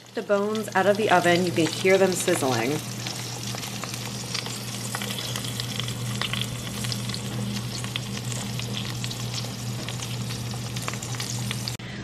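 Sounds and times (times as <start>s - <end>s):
meat sizzling on baking sheet: 0.0s - 11.8s
steady low hum: 0.4s - 12.0s.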